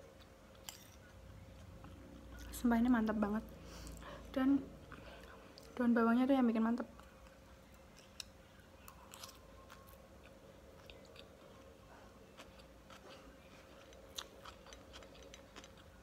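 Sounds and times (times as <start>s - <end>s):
person chewing softly: 0.0s - 5.8s, 6.8s - 16.0s.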